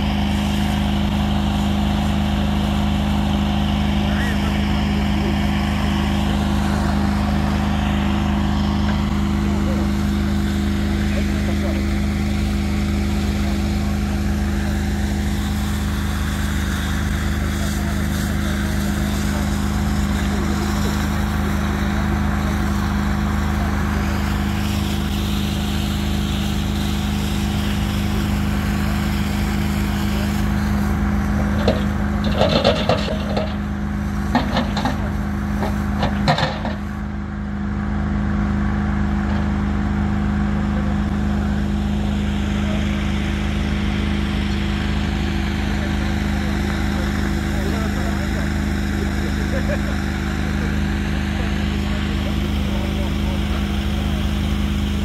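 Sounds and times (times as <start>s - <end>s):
large engine humming: 0.0s - 55.0s.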